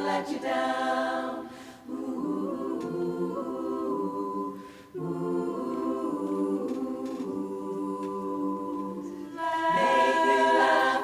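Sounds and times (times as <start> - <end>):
a cappella chorus singing: 0.0 - 11.0.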